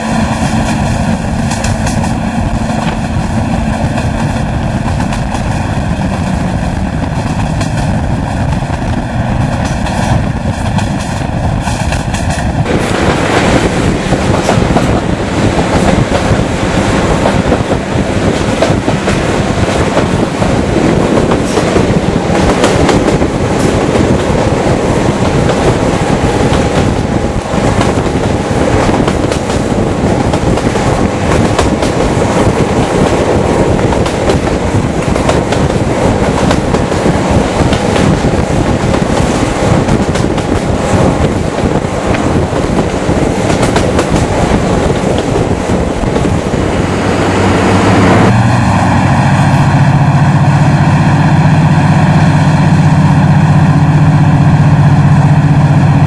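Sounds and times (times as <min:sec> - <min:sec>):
diesel locomotive engines working: 0:00.0 - 0:56.0.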